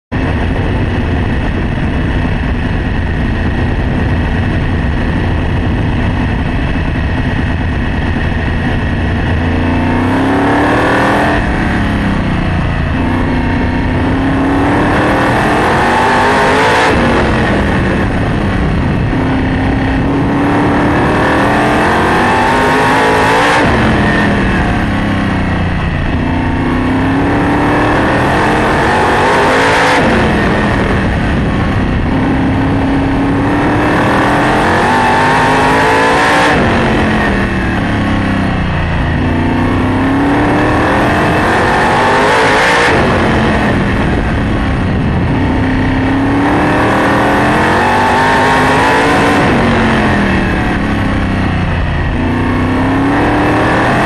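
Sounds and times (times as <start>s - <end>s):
race car engine running at speed: 0.0s - 54.0s.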